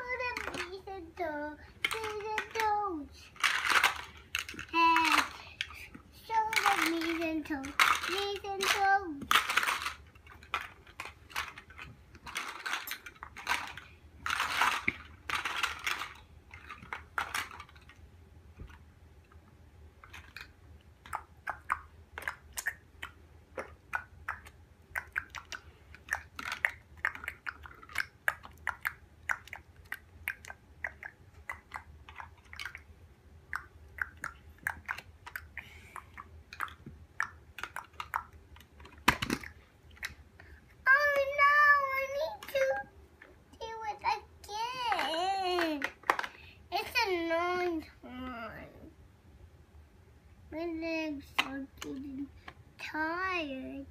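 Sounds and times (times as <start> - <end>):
plastic building blocks clicking: 0.1 - 18.0, 20.0 - 32.9, 33.5 - 43.8, 44.6 - 47.8.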